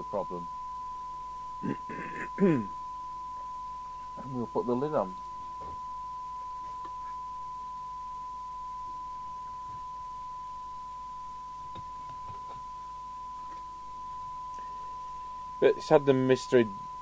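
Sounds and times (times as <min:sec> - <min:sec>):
steady test tone: 0:00.0 - 0:17.0.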